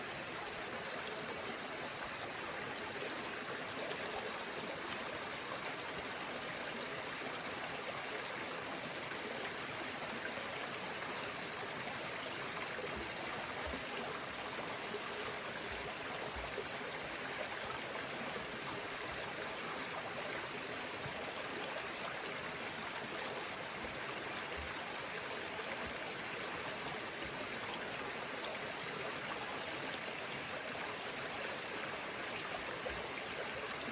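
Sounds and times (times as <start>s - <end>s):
water flowing: 0.0s - 9.0s, 10.7s - 33.9s.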